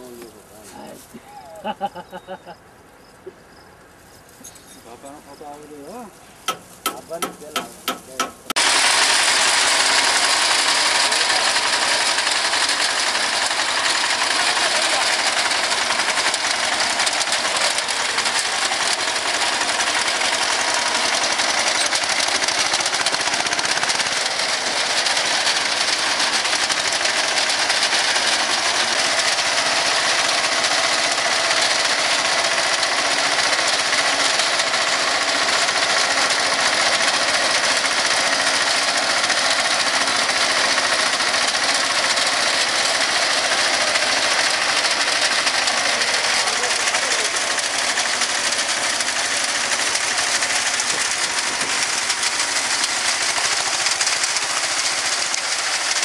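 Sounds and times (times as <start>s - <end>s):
tractor engine running: 3.8s - 56.0s.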